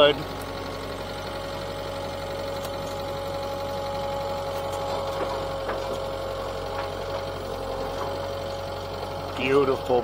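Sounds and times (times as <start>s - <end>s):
loader engine whining: 0.0s - 10.0s.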